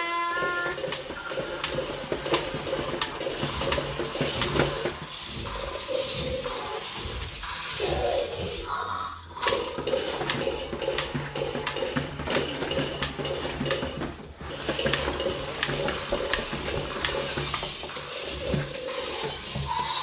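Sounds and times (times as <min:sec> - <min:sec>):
toy gears whirring: 0:00.0 - 0:20.0.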